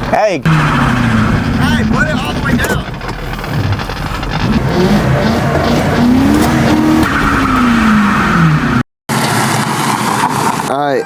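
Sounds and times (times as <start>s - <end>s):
car engine revving hard: 0.5s - 10.7s
tires squealing: 0.5s - 11.0s.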